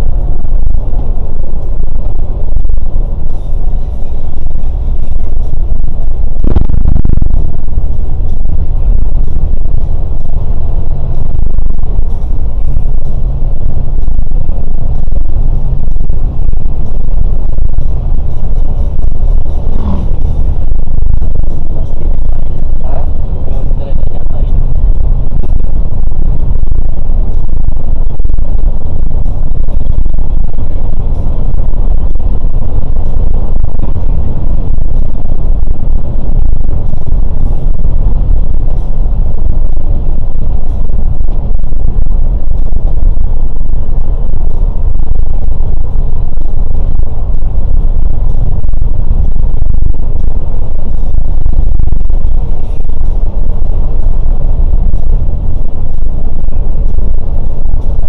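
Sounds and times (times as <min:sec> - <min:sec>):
coach engine and road rumble: 0:00.0 - 0:58.0.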